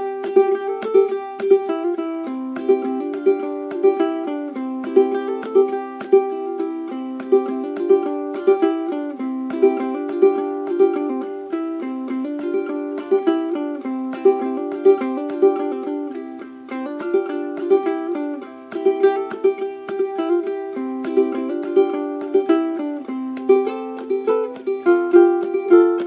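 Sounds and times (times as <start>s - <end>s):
ukulele plucked and strummed: 0.0s - 26.0s.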